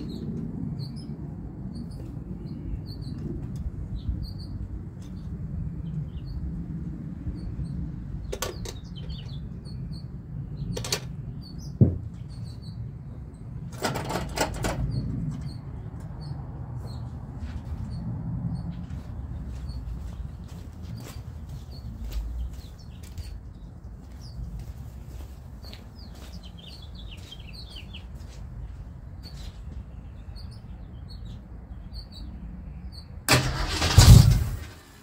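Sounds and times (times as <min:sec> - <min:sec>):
birds chirping: 0:00.0 - 0:34.6.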